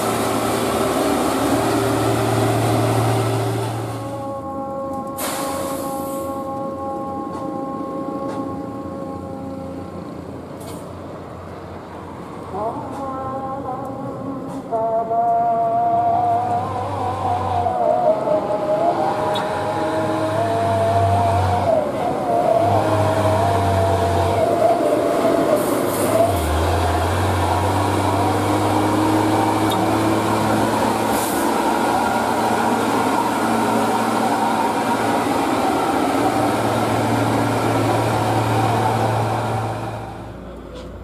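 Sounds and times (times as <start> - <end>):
diesel truck engine labouring: 0.0 - 41.0.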